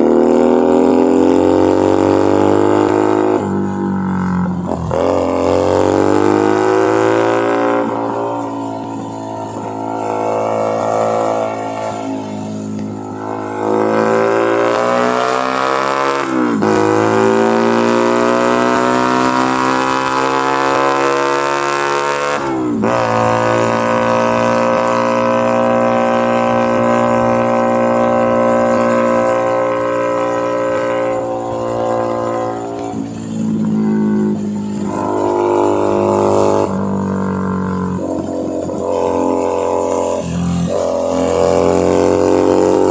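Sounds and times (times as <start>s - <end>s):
motorcycle accelerating through gears: 0.0s - 42.9s.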